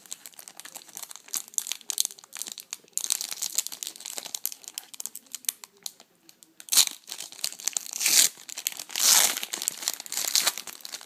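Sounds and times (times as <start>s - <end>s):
foil wrapper crinkling: 0.0s - 6.0s, 6.6s - 11.0s.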